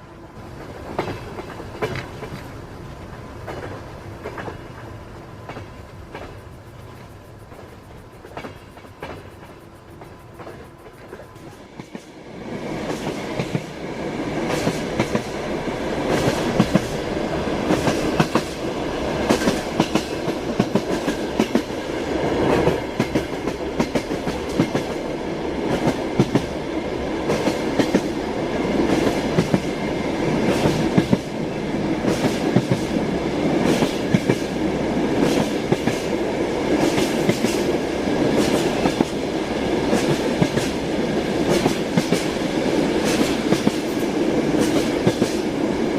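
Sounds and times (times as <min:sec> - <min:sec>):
train wheels clattering on rails: 0:00.4 - 0:45.9.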